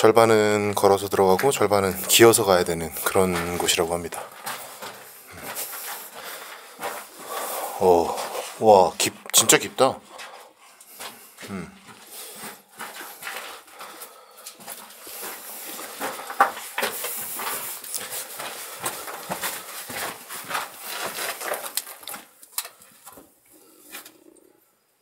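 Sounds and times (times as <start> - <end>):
person crawling over stones: 1.2 - 8.8, 10.1 - 24.3.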